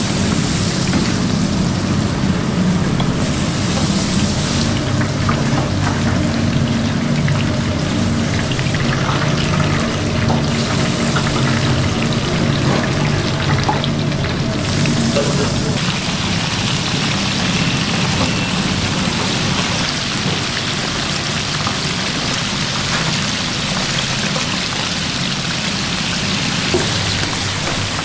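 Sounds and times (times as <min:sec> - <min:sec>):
food sizzling with crackles: 0:00.0 - 0:28.0.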